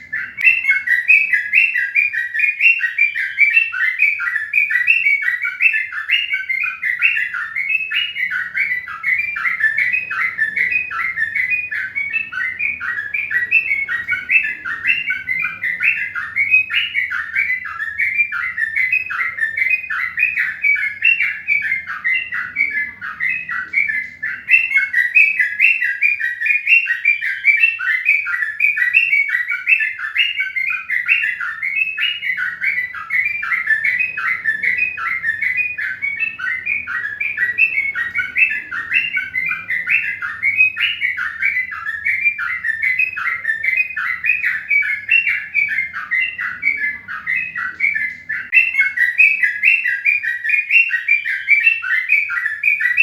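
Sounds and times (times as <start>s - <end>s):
birds chirping rapidly: 0.0s - 53.0s.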